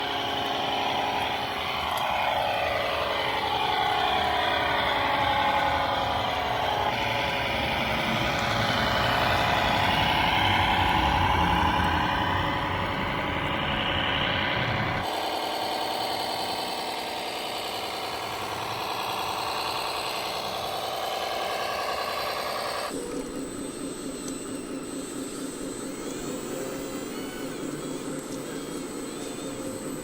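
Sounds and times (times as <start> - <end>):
electronic model engine sounds: 0.0 - 30.0.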